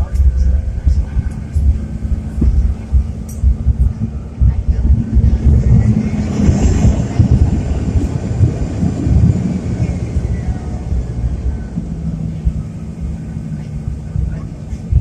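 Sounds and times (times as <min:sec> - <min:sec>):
jet cabin low rumble: 0:00.0 - 0:15.0
steady hum: 0:00.0 - 0:15.0.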